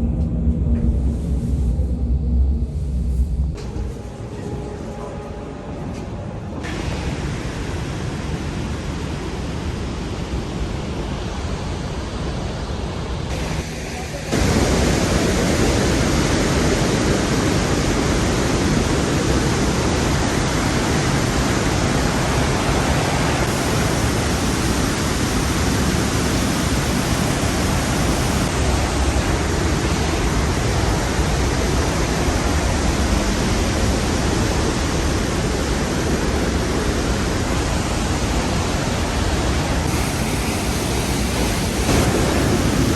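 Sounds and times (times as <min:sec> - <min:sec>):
waterfall roaring: 0:06.6 - 0:42.9.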